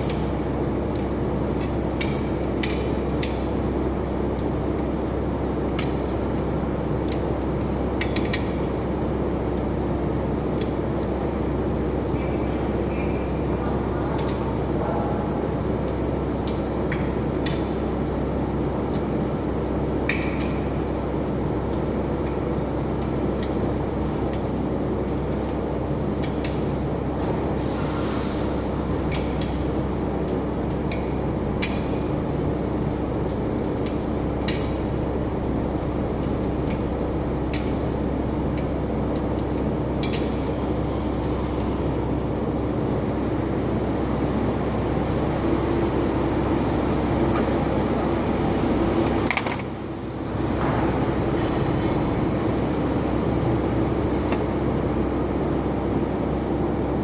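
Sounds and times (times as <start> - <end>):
loud machine hum: 0.0 - 57.0.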